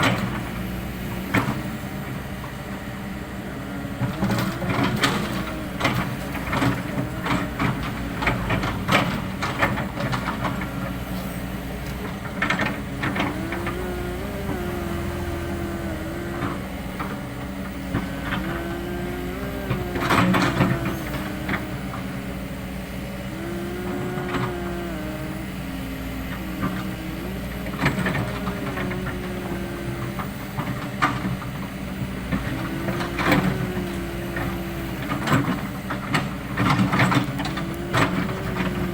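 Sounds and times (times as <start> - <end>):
excavator diesel engine: 0.0 - 38.9
hydraulic whine: 0.0 - 38.9.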